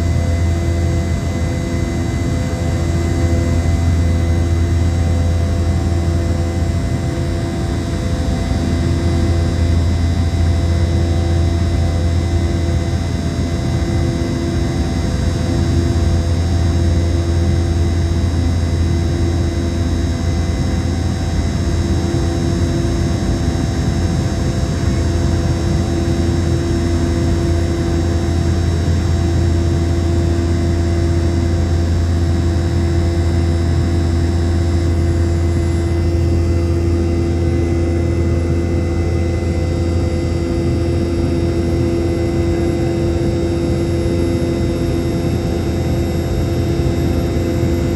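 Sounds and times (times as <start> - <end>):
jet engines heard from cabin: 0.0 - 47.9.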